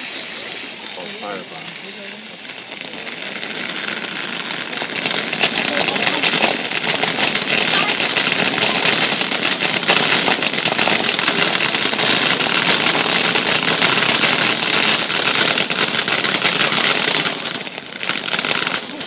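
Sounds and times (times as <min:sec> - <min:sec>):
fireworks crackling pops: 0:00.0 - 0:19.0
fireworks hissing spray: 0:00.0 - 0:19.0.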